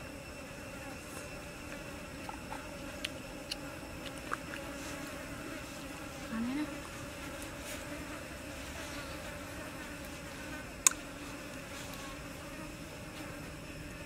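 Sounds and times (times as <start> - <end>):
constant low hum: 0.0 - 14.0
flying insects buzzing: 0.0 - 14.0.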